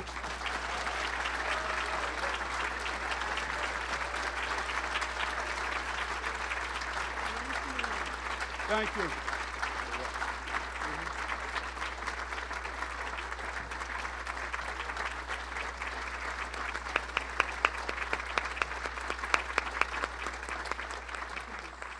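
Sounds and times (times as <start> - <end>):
audience applauding: 0.0 - 21.9
sharp claps close by: 0.0 - 21.9.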